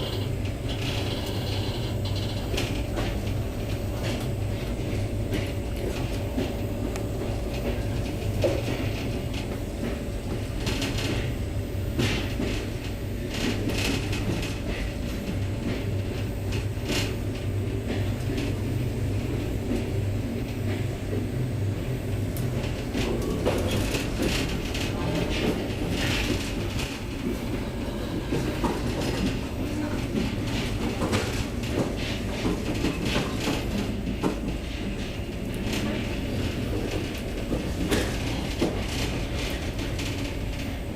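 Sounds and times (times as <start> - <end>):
train carriage rumbling on track: 0.0 - 40.9.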